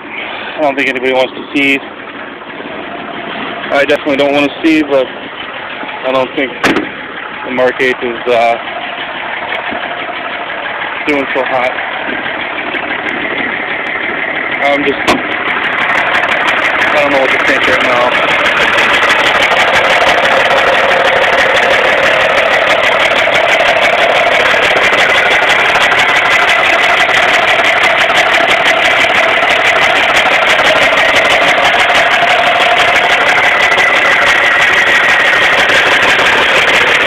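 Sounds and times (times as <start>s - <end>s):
car engine idling with clatter: 0.0s - 37.0s
high engine whine: 0.0s - 37.0s.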